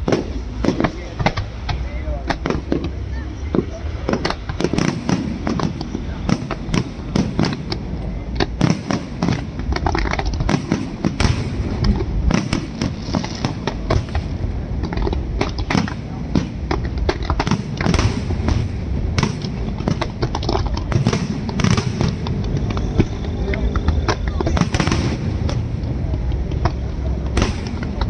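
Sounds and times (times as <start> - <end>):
constant low rumble: 0.0 - 28.0
fireworks and firecrackers banging: 0.0 - 28.0.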